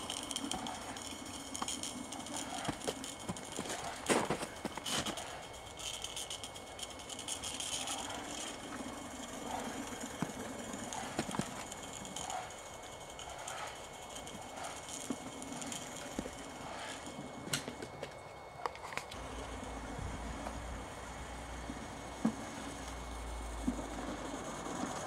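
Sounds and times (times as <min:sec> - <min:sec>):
train clicking on track: 0:00.0 - 0:20.7.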